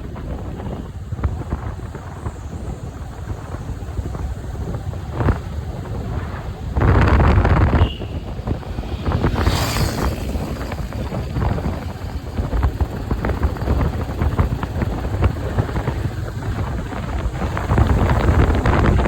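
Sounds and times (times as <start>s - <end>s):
wind blowing across microphone: 0.0s - 19.0s.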